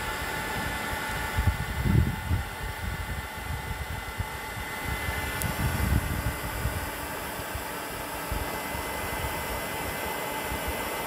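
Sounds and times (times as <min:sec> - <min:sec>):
weed burner fan hissing: 0:00.0 - 0:11.0.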